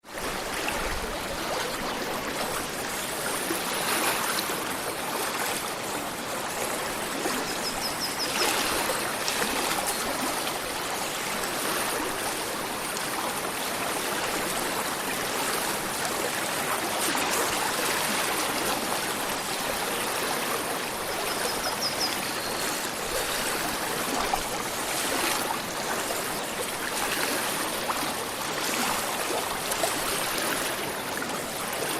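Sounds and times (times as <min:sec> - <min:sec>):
stream flowing: 0:00.0 - 0:31.9.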